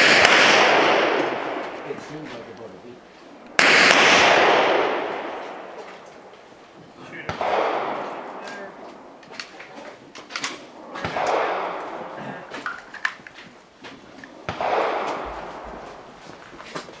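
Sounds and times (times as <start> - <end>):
gunshots with rolling echo: 0.0 - 16.5.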